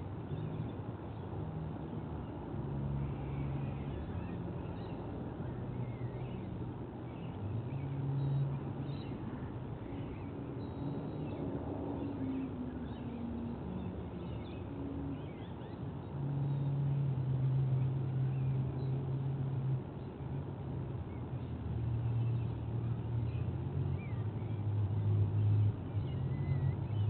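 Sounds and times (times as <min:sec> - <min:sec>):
distant engine hum: 0:00.0 - 0:27.0.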